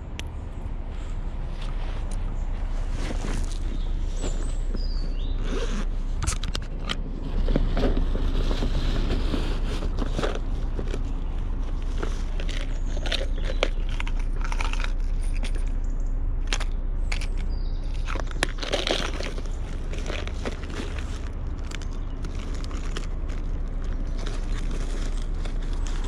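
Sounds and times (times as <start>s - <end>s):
steady low rumble: 0.0s - 26.0s
handling noise clicks and crinkling: 1.1s - 26.0s.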